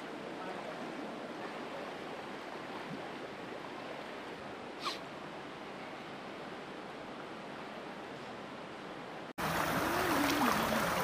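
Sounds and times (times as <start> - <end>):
rushing floodwater: 0.0 - 11.0.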